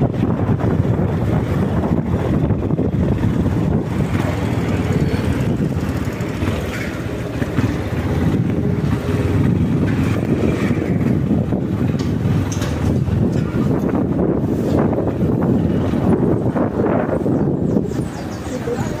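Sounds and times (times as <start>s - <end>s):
motorcycle engine running: 0.0s - 17.8s
wind buffeting microphone: 0.0s - 19.0s.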